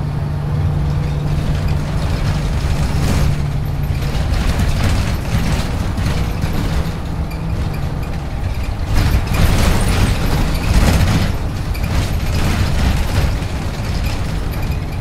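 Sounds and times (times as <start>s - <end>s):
bus body rattles: 0.0s - 15.0s
diesel bus engine rumble: 0.0s - 15.0s.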